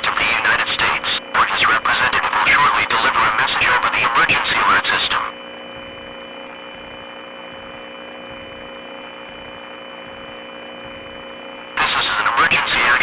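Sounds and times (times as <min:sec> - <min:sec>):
faint hum tones: 0:00.0 - 0:13.0.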